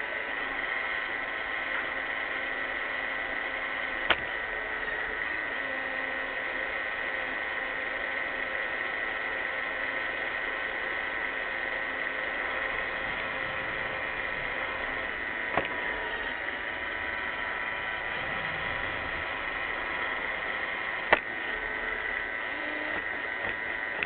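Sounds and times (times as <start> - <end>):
robot vacuum running: 0.0 - 7.4, 10.5 - 24.0.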